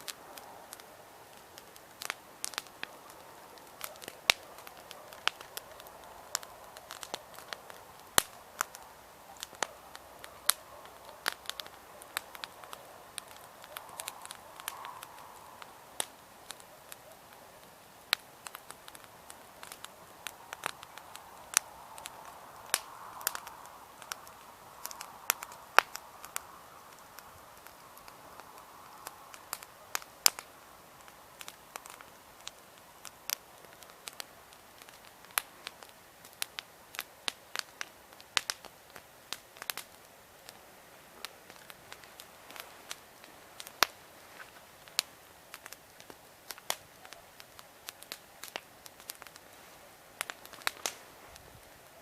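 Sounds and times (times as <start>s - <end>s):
campfire pops and snaps: 0.0s - 52.0s
hiss of burning fire: 0.0s - 52.0s.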